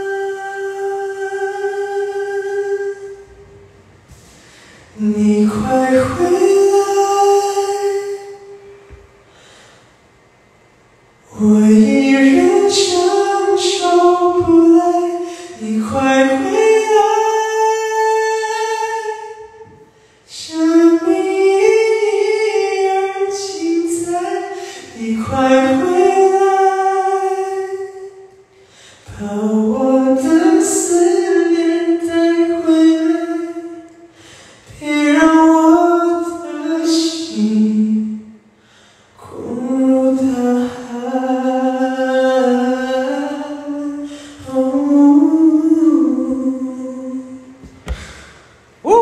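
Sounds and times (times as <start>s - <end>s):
man singing a cappella: 0.0s - 9.0s, 11.2s - 38.5s, 39.2s - 48.2s.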